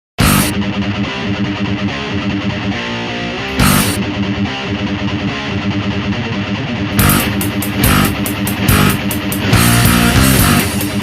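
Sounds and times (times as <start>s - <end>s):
rock music with electric guitar: 0.2s - 11.0s.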